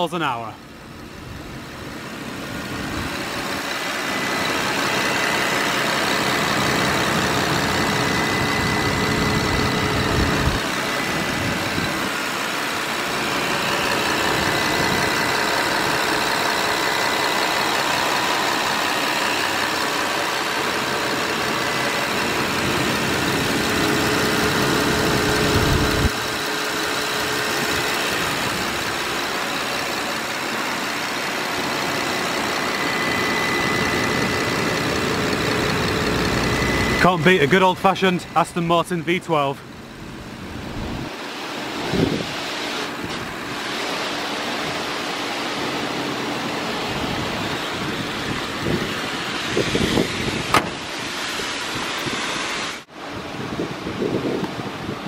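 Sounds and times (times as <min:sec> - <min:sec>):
car engine idling: 0:00.0 - 0:41.8, 0:42.6 - 0:49.6.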